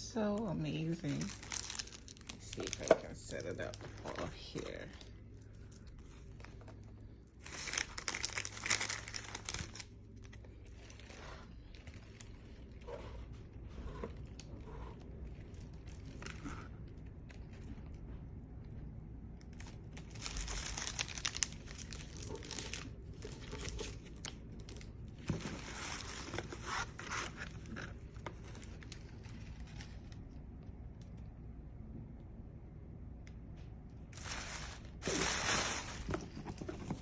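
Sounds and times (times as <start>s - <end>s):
paper and plastic rustling: 0.9s - 18.8s, 19.4s - 30.4s, 34.1s - 37.0s.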